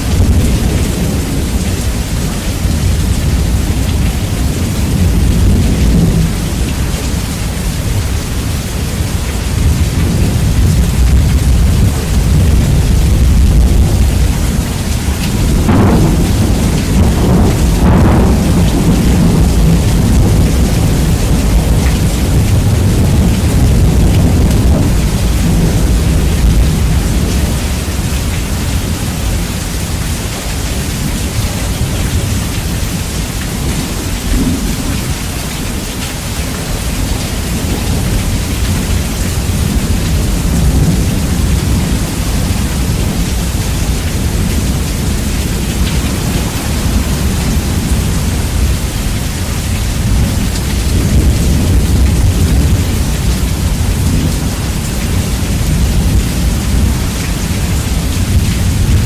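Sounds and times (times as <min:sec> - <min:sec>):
low thunder rumble: 0:00.0 - 0:59.0
rain: 0:00.0 - 0:59.0.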